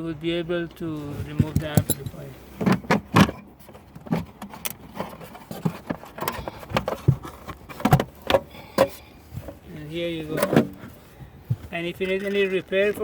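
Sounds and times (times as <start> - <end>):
knocks clunks and clicks: 1.2 - 13.0.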